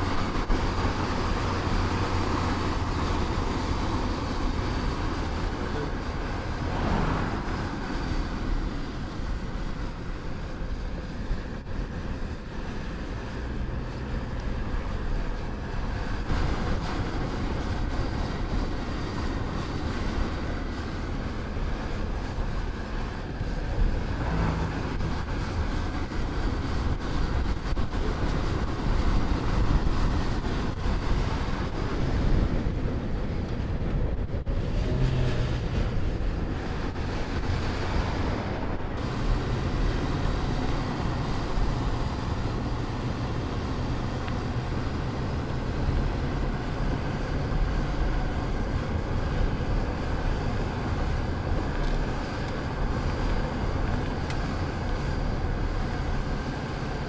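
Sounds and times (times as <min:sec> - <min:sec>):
car engine driving: 0:00.0 - 0:57.0
tyre and wind noise: 0:00.0 - 0:57.0.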